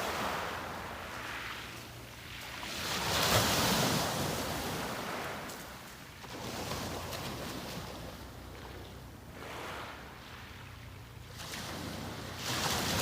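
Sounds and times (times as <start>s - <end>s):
small sea waves breaking: 0.0s - 13.0s.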